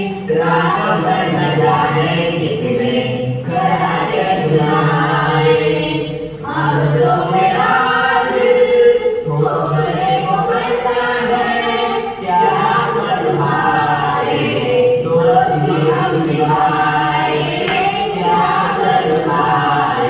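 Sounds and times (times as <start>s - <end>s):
group singing in unison: 0.0s - 20.0s.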